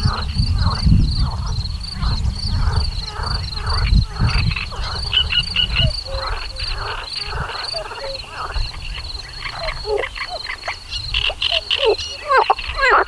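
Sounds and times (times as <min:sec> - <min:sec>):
frogs croaking in chorus: 0:00.0 - 0:13.0.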